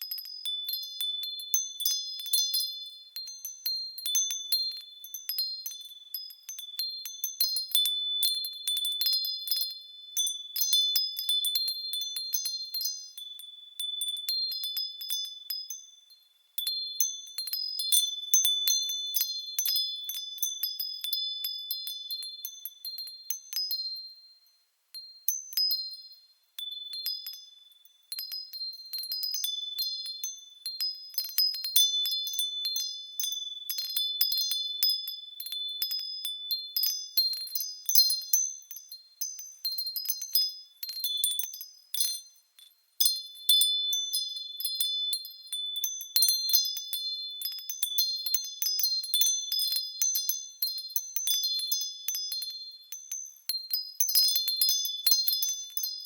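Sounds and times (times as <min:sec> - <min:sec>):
wind chimes tinkling: 0:00.0 - 0:56.0.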